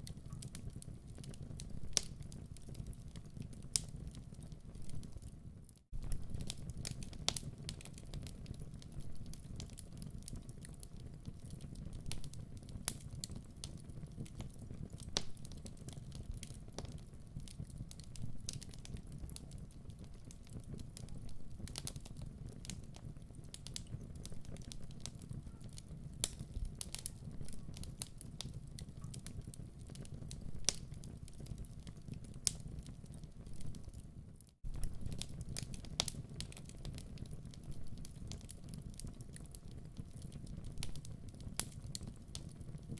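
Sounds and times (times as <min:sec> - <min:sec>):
flames rumbling: 0:00.0 - 0:42.9
wood fire popping and snapping: 0:00.0 - 0:42.9.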